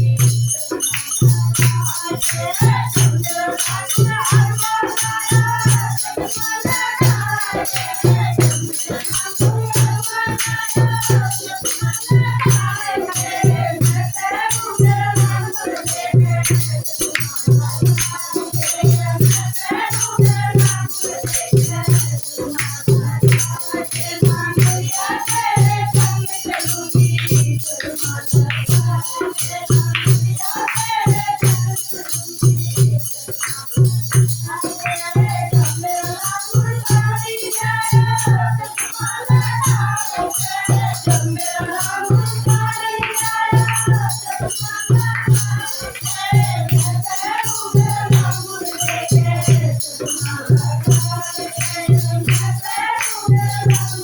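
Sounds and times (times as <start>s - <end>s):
jingling hand percussion: 0.0s - 54.0s
steady drum beat: 0.0s - 54.0s
voices singing a melody: 0.0s - 54.0s.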